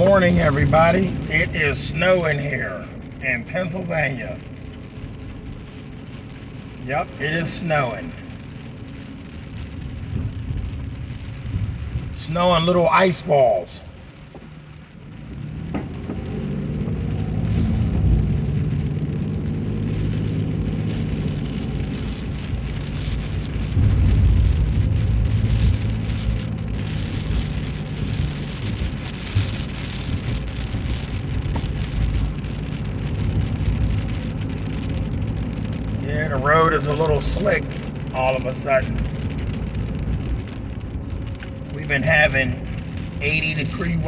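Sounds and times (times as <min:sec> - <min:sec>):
car engine hum and tyre noise: 0:00.0 - 0:44.0.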